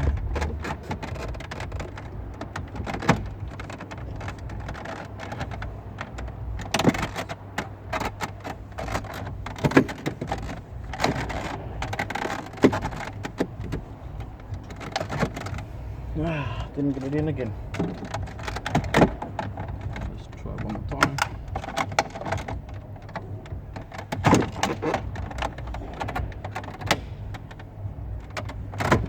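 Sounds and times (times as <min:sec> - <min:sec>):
low steady hum: 0:00.0 - 0:29.0
plastic trim clicking and rattling: 0:00.0 - 0:29.0.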